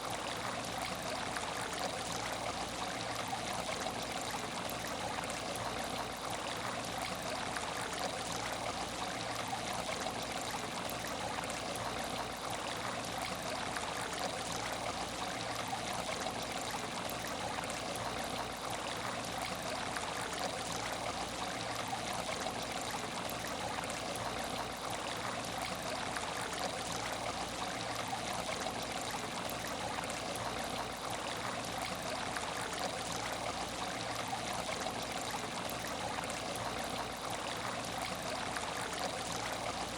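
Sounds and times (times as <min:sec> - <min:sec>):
aquarium water trickling and splashing: 0:00.0 - 0:39.9.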